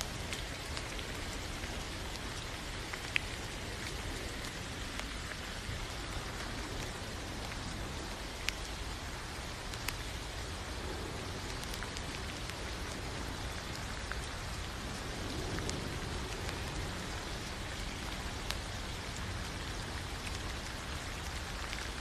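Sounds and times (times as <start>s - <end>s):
raindrops ticking: 0.0s - 22.0s
steady rain hiss: 0.0s - 22.0s.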